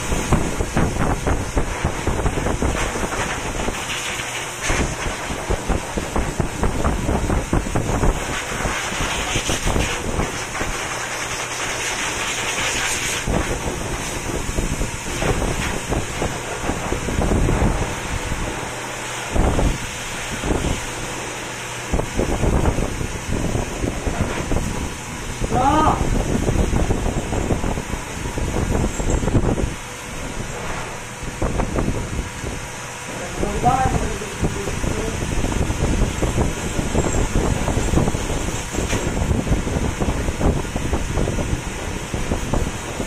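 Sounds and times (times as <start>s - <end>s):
air buffeting on microphone: 0.0s - 43.0s
grooming blower running: 0.0s - 43.0s.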